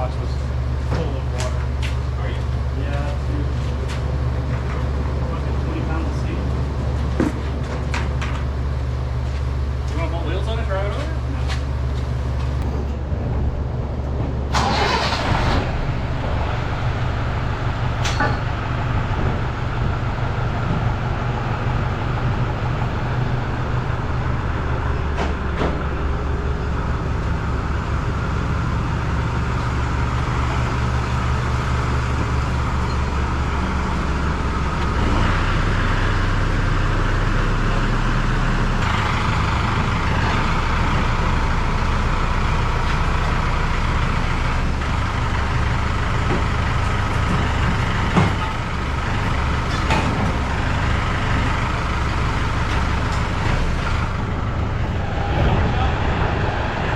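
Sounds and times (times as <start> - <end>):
vehicle engine humming: 0.0 - 56.9.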